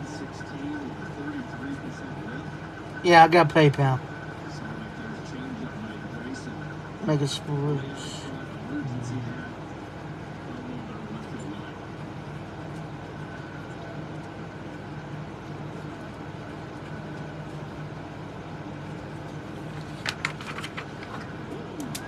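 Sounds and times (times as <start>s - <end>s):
room noise hum and hiss: 0.0s - 22.0s.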